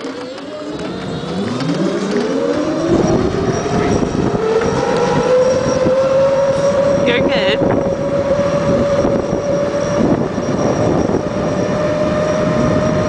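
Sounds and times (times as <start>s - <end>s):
small engine accelerating: 0.0s - 13.0s.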